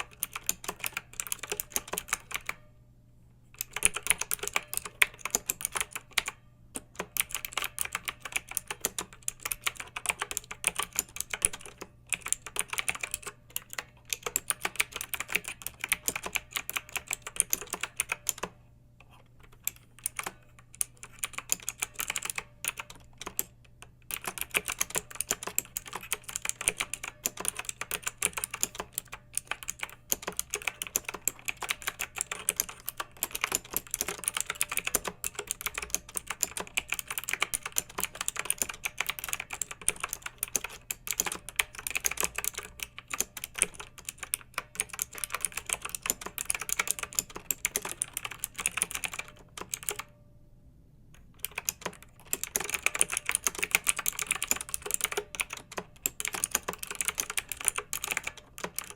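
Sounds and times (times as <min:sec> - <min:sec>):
mechanical keyboard typing: 0:00.0 - 0:02.7, 0:03.6 - 0:50.2, 0:51.2 - 0:58.9.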